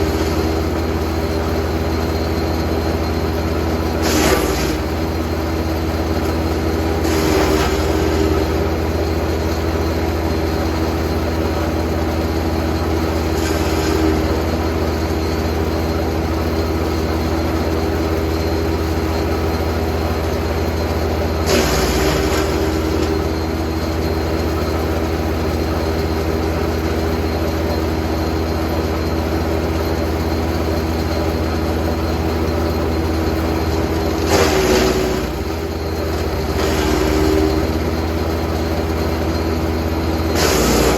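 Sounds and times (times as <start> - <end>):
wood chipper engine running: 0.0 - 40.9.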